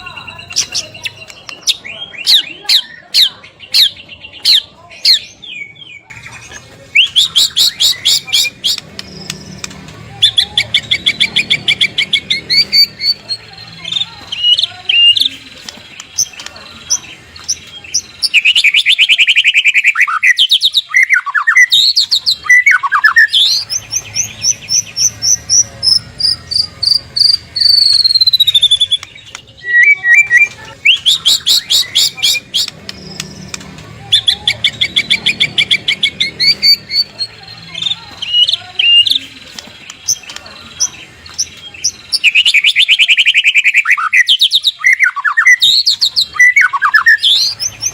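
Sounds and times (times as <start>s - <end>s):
songbird singing varied song: 0.0s - 47.9s.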